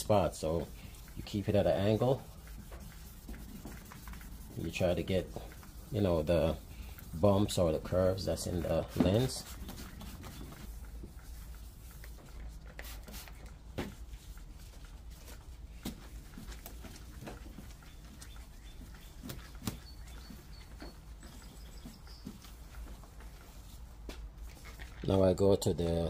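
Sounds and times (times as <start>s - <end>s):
hand wet-sanding plastic: 0.0s - 26.0s.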